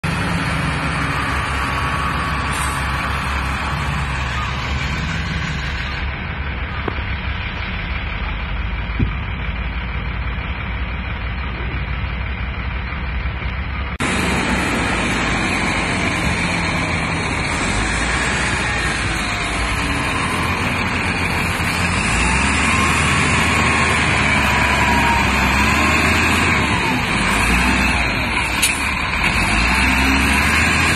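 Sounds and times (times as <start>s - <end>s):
loader diesel engine under load: 0.0s - 30.9s.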